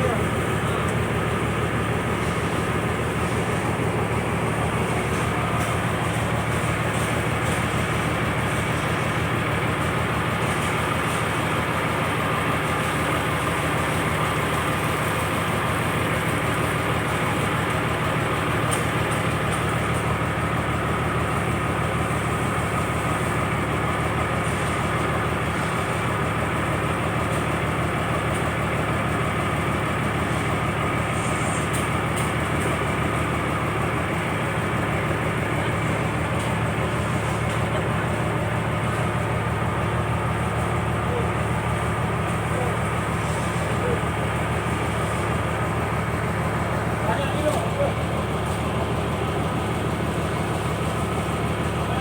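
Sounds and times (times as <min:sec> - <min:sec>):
boat engine droning steadily: 0:00.0 - 0:52.0.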